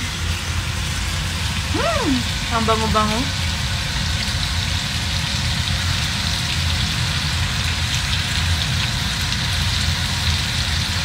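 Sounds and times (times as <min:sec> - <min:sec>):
low steady hum: 0:00.0 - 0:11.0
meat sizzling in a pan: 0:00.0 - 0:11.0.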